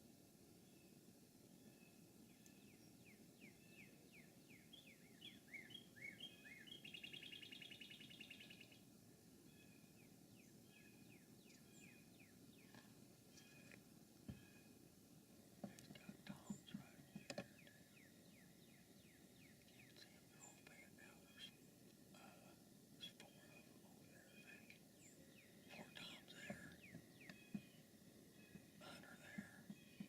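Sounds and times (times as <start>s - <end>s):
songbird singing faintly: 0.0s - 30.0s.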